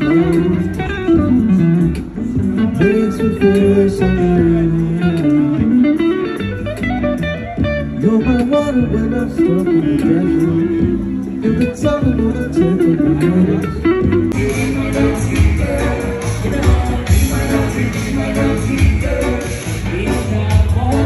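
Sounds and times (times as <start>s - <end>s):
electric guitar melody: 0.0s - 21.0s.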